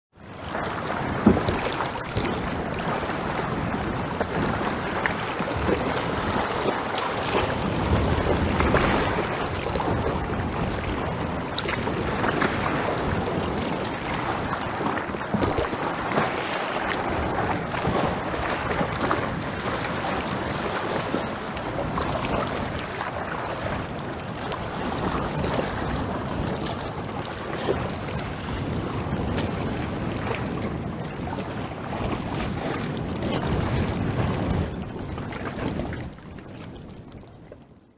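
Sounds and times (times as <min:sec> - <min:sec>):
water lapping around ice: 0:00.2 - 0:37.9.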